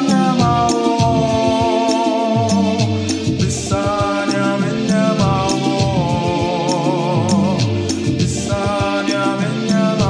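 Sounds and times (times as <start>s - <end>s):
backing track with bass and beat: 0.0s - 10.0s
man singing: 0.0s - 10.0s.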